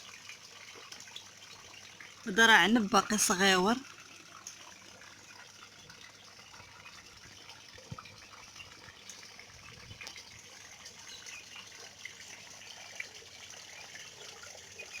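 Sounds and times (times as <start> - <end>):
faint running water splashing: 0.0 - 15.0
water drips: 0.0 - 15.0.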